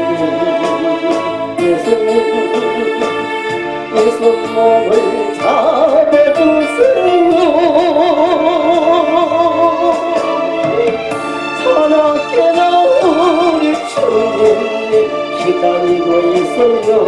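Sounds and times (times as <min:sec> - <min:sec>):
backing music: 0:00.0 - 0:17.0
man singing: 0:00.0 - 0:17.0.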